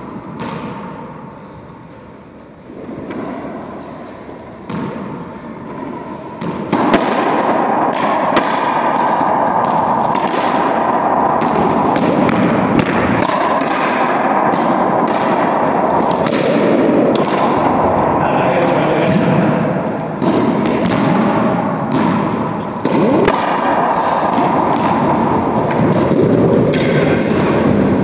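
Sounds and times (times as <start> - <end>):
racquetball cracking off walls: 0.3 - 1.0, 4.6 - 5.8, 6.4 - 27.9.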